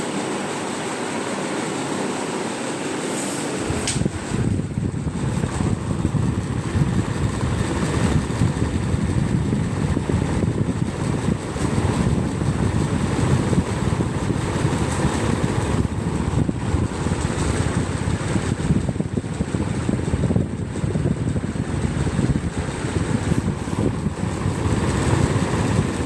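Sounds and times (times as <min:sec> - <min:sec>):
fan airflow buffeting microphone: 0:00.0 - 0:26.0.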